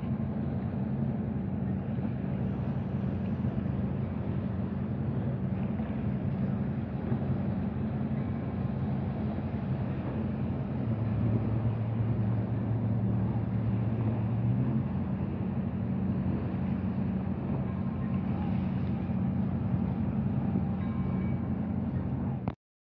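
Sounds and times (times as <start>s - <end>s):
low engine hum: 0.0s - 22.6s.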